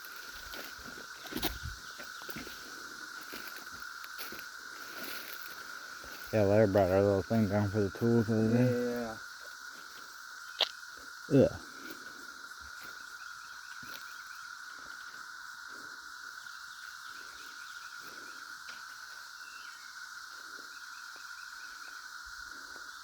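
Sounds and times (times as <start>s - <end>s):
cicadas droning: 0.0s - 23.0s.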